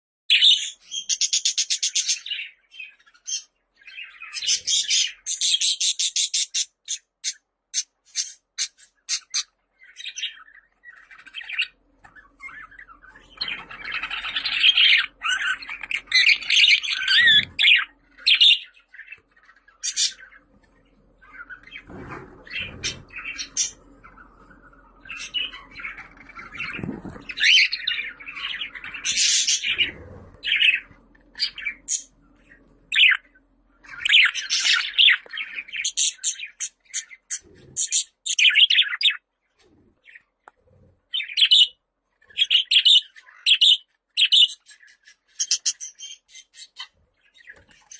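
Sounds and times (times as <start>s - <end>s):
budgerigar warbling and chattering: 3.2s - 20.4s, 21.2s - 32.1s, 32.9s - 39.2s, 41.1s - 41.8s, 42.4s - 47.9s.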